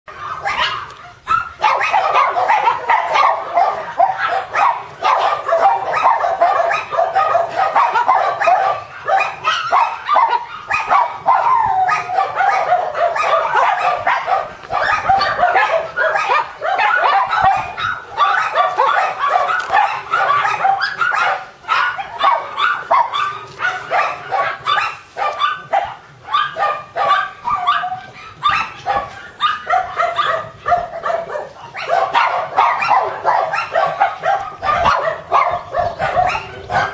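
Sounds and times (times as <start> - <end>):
puppies yipping and whimpering: 0.1 - 36.9.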